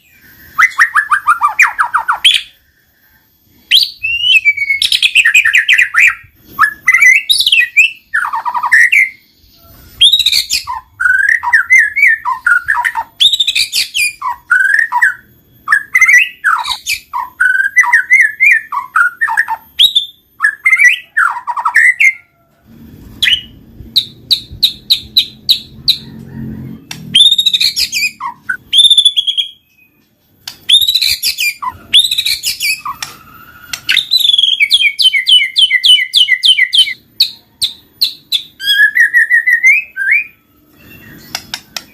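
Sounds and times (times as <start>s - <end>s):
songbird whistling song: 0.0s - 22.4s, 23.1s - 41.9s.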